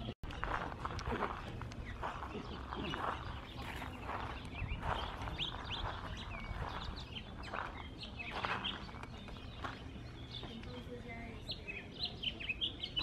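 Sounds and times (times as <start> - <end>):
footsteps on dirt path: 0.0 - 11.3
small birds chirping: 0.0 - 13.0.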